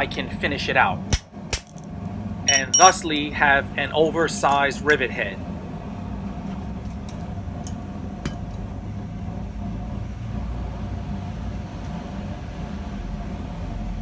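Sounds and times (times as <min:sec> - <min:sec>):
mechanical hum with whine: 0:00.0 - 0:14.0.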